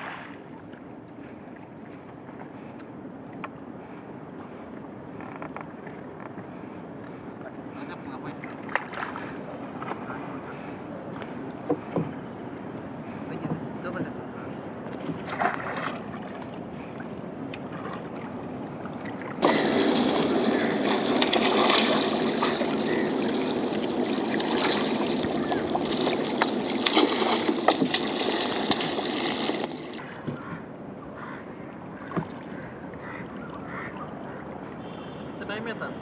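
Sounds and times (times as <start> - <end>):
water splashing around boat: 0.0 - 36.0.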